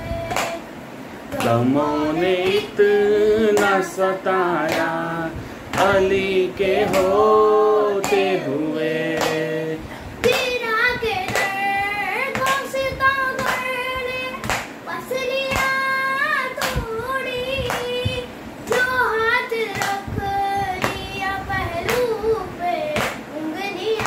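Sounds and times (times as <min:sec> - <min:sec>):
boy singing lament: 0:01.3 - 0:24.0.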